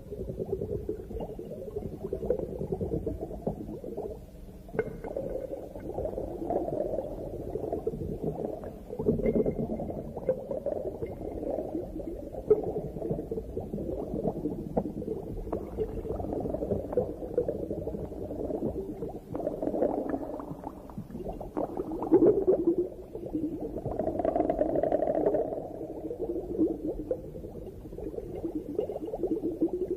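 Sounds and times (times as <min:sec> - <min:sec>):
underwater bubbling water: 0:00.0 - 0:29.9.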